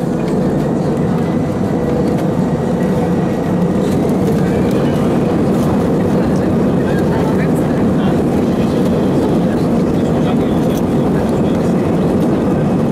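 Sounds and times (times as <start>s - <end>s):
jet engine rumble in cabin: 0.0s - 12.9s.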